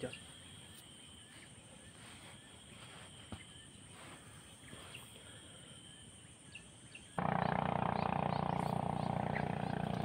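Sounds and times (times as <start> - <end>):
bird chirps: 0.0 - 10.0
high insect drone: 0.0 - 10.0.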